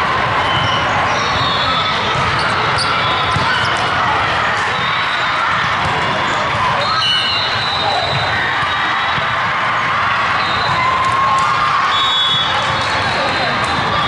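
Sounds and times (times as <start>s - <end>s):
hubbub of voices: 0.0s - 14.0s.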